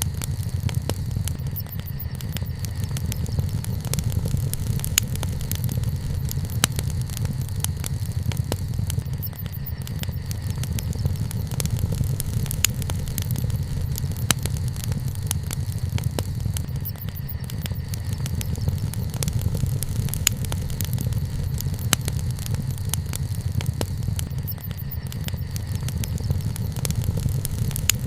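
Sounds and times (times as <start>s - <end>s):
bonfire crackling: 0.0s - 28.0s.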